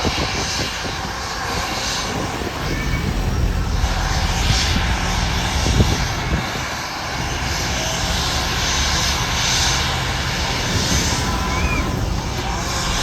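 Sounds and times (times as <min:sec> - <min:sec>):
airplane engines rushing: 0:00.0 - 0:13.0.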